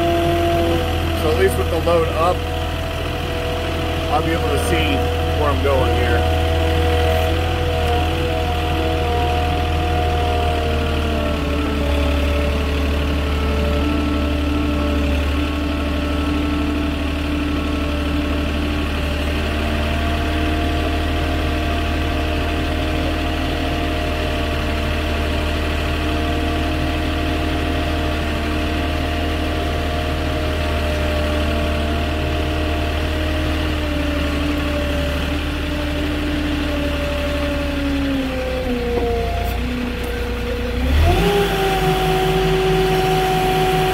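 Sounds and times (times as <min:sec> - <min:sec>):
forklift engine running: 0:00.0 - 0:43.9.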